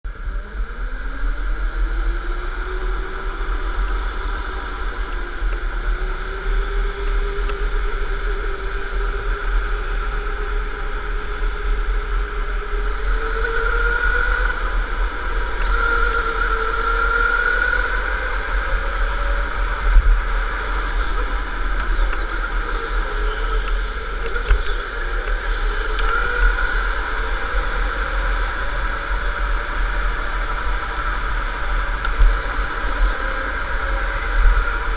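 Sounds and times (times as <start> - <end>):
electric go-kart motor whine: 0.1 - 34.9.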